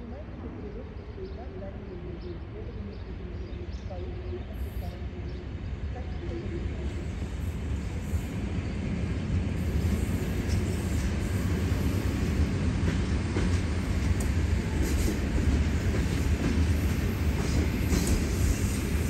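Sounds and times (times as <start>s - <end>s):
train rumbling over rails: 0.0s - 19.0s.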